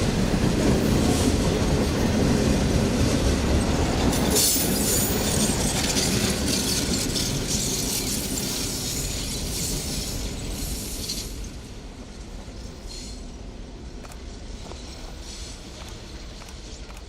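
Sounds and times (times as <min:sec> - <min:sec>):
train wheel clatter: 0:00.0 - 0:17.0.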